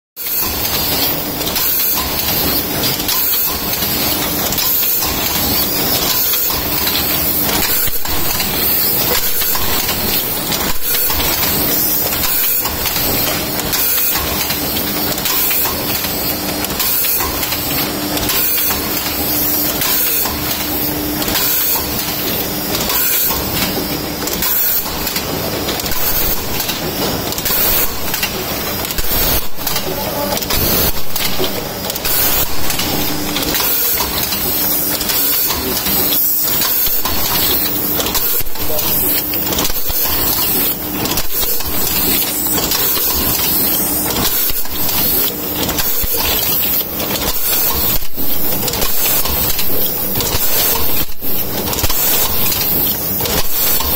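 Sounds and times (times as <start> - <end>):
machine mechanical clatter: 0.2 - 53.9.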